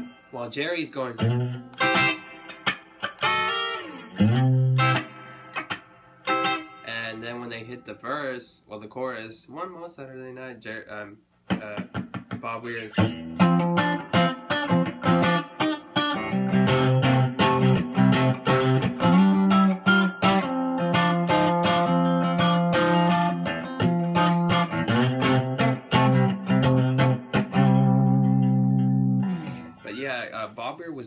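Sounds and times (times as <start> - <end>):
electric guitar strummed: 1.0 - 8.0, 11.5 - 29.9.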